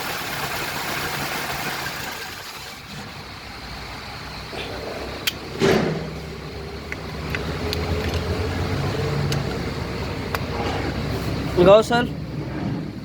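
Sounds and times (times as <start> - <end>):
car engine idling: 0.0 - 12.1.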